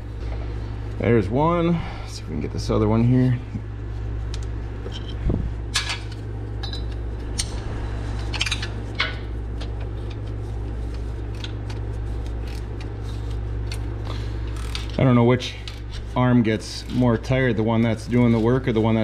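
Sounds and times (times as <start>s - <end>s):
air conditioners humming: 0.0s - 19.0s.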